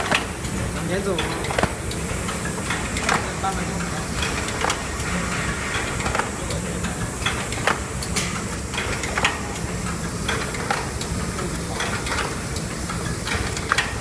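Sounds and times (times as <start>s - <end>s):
machine mechanism clacking: 0.0s - 14.0s.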